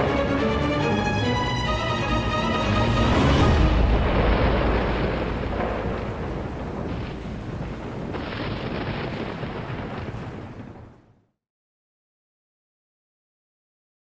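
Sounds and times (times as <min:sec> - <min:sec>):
thunder rumble: 0:00.0 - 0:11.3.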